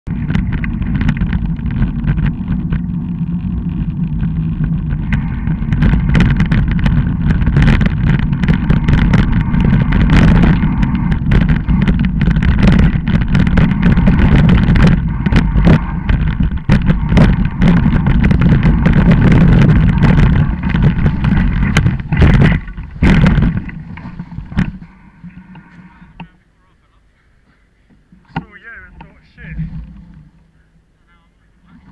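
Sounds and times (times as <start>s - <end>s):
bicycle tyres rumbling on dirt: 0.0s - 26.3s, 28.0s - 31.9s
bike rattling and knocking: 0.0s - 26.3s, 27.9s - 30.5s
wind buffeting microphone: 0.0s - 26.3s, 28.0s - 31.0s.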